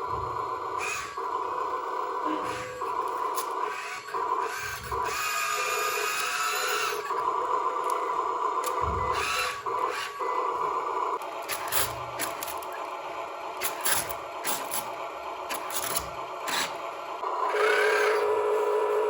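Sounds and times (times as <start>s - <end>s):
small electric motors whining: 0.0s - 19.0s.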